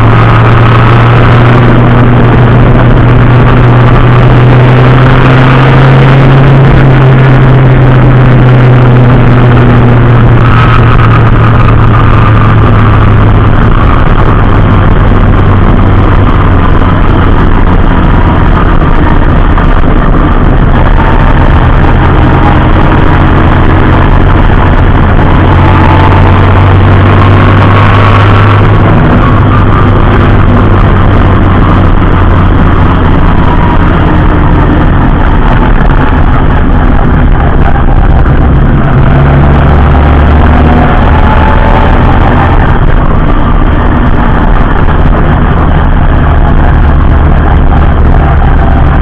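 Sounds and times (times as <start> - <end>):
race car engine running: 0.0 - 49.0.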